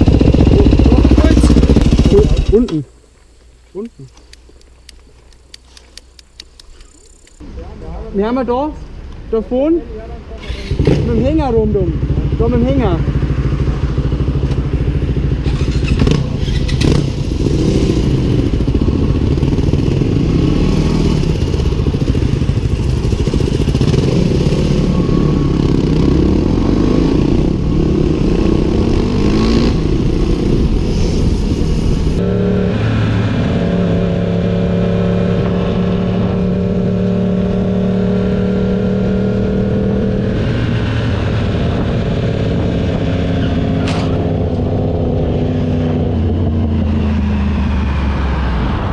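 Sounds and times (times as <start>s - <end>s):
motorcycle engine running: 0.0s - 3.0s, 10.7s - 47.9s.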